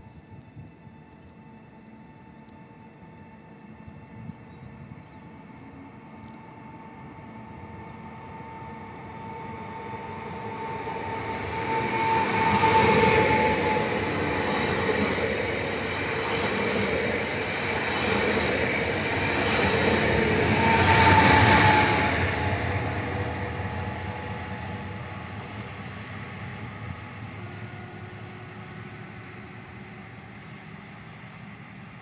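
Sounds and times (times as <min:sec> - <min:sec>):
electric motor whine: 0:01.8 - 0:31.9
train wheels rumbling on rail: 0:03.5 - 0:32.0.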